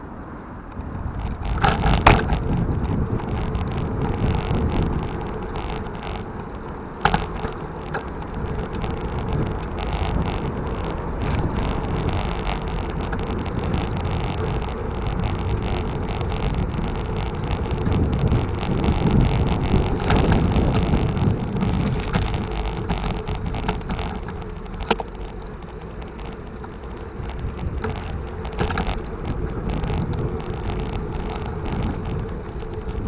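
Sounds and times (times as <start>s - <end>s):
bicycle road and wind noise: 0.0s - 33.0s.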